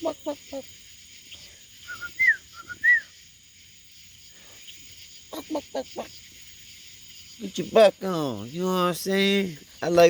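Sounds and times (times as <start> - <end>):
night insects chorus: 0.0 - 10.0.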